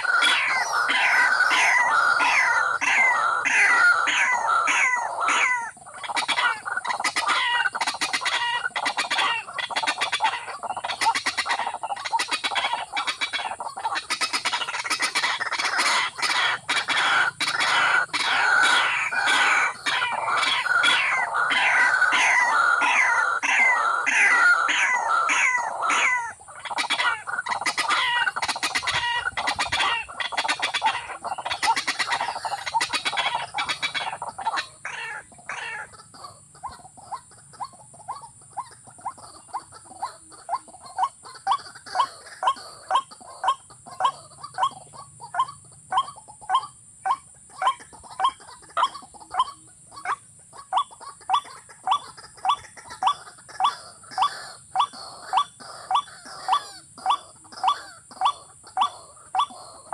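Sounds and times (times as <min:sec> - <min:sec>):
bird clucking calls: 0:00.0 - 0:59.9.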